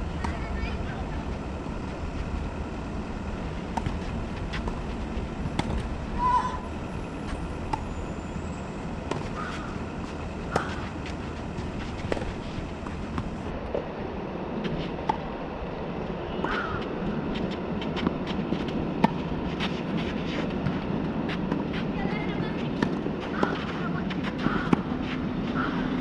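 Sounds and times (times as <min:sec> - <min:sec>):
tennis balls bouncing and struck: 0:00.0 - 0:07.9, 0:08.8 - 0:13.9, 0:14.6 - 0:15.4, 0:16.4 - 0:21.9, 0:22.5 - 0:26.0
outdoor background noise: 0:00.0 - 0:26.0.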